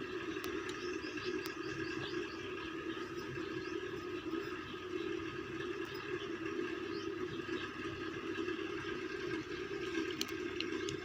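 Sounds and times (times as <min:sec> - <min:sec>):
steady droning hum: 0:00.0 - 0:11.0.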